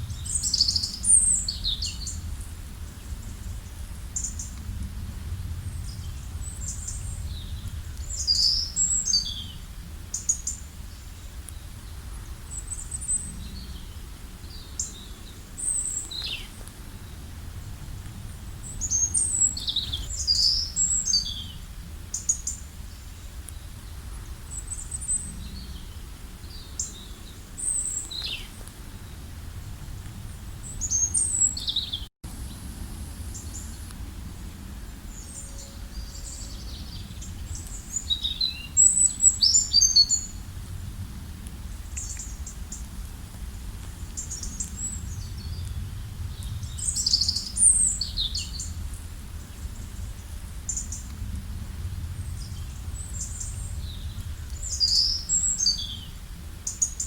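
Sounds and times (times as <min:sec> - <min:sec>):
songbirds chirping and trilling: 0:00.0 - 0:04.8, 0:05.6 - 0:29.2, 0:30.2 - 0:32.7, 0:33.3 - 0:40.5, 0:44.1 - 0:51.2, 0:52.1 - 0:57.0
low outdoor rumble: 0:00.0 - 0:57.0.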